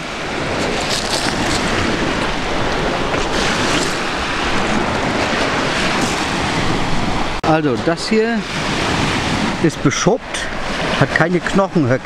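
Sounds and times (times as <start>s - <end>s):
surf washing onto sand beach: 0.0s - 12.0s
wind rushing over microphone: 0.0s - 12.0s.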